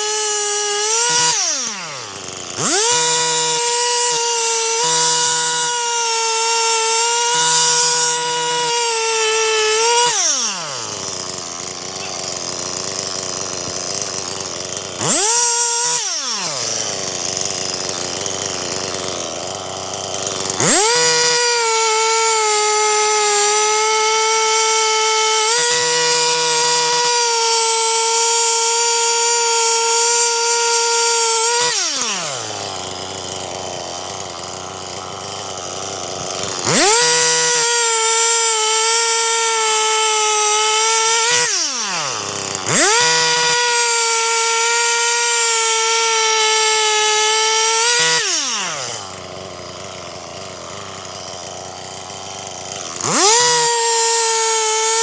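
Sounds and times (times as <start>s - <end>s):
chainsaw cutting at full throttle: 0.0s - 55.0s
chainsaw idling: 0.0s - 55.0s.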